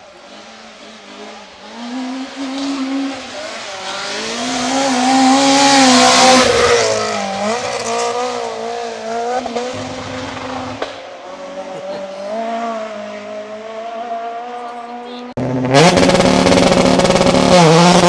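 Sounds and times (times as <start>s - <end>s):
rally car engine revving past: 0.3s - 18.0s.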